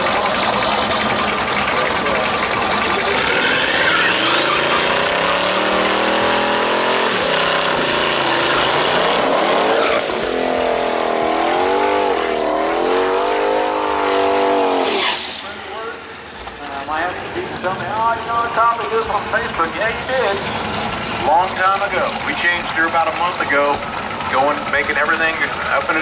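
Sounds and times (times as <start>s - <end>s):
high engine whine: 0.0s - 26.0s
racing car accelerating: 0.0s - 26.0s.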